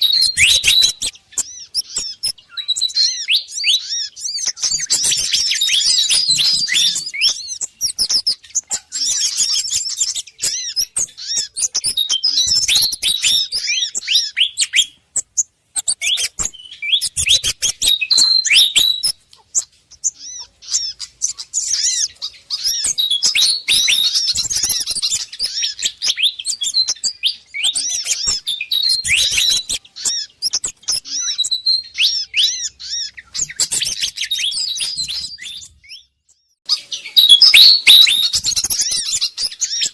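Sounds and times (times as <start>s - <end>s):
quick high bird chirps: 0.0s - 39.9s.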